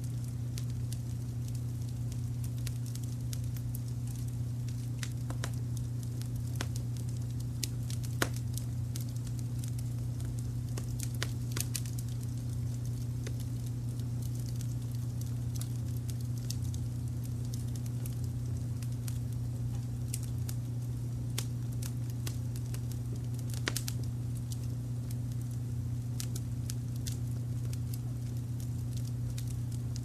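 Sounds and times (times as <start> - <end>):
low rumble of brown noise: 0.0 - 30.0
wood fire crackling: 0.0 - 30.0.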